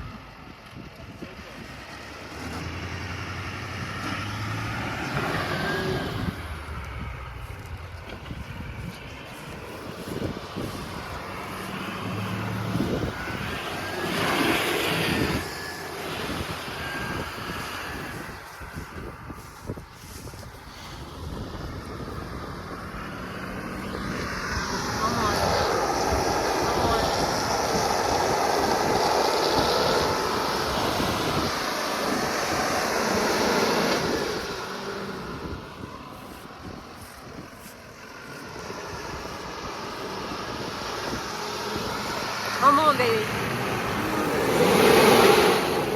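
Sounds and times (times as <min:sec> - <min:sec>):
pickup engine under throttle: 0:00.1 - 0:45.9
rushing noise: 0:02.2 - 0:45.9.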